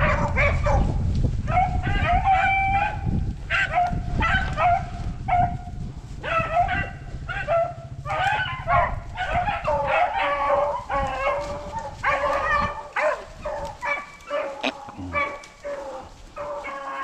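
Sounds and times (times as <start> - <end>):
hounds baying: 0.0 - 17.0.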